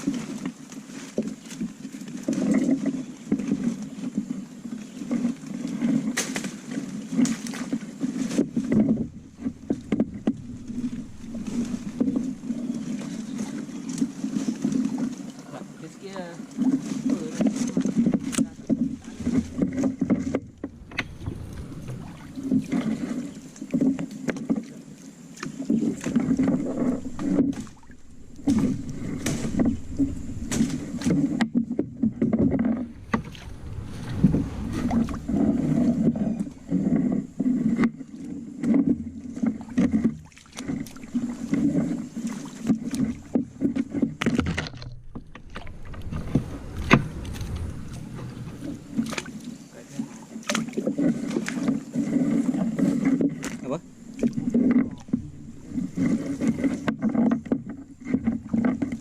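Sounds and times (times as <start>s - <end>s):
water sloshing and splashing: 0.0s - 59.0s.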